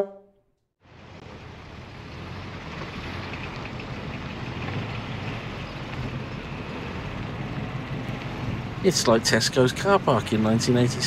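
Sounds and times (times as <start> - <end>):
car engine humming: 0.8 - 11.0.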